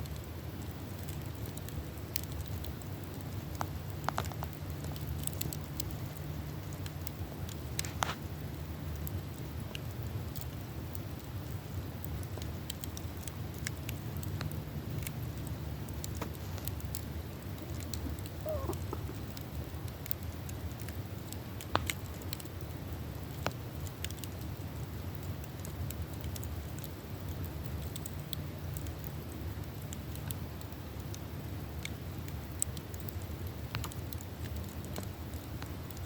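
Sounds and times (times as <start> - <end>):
campfire crackling and popping: 0.0 - 36.0
low fire rumble: 0.0 - 36.0.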